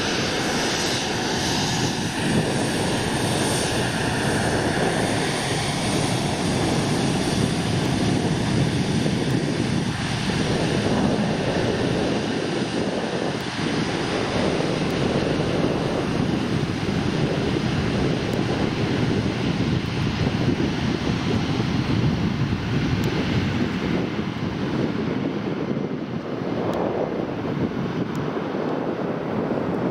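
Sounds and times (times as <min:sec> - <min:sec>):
jet engines running: 0:00.0 - 0:29.9.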